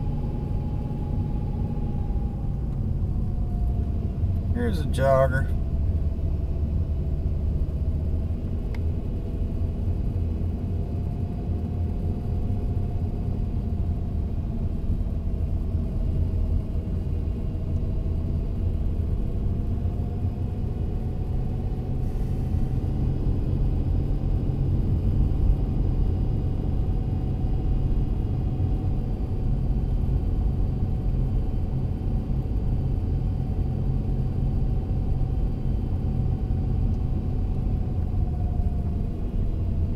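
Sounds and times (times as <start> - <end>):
car engine and tyres rumbling: 0.0 - 39.9
faint steady whine: 0.0 - 39.9.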